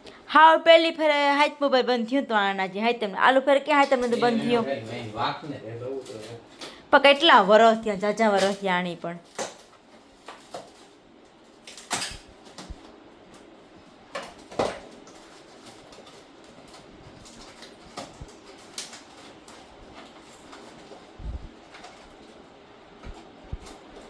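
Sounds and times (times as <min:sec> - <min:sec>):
faint background noise: 0:00.0 - 0:24.0.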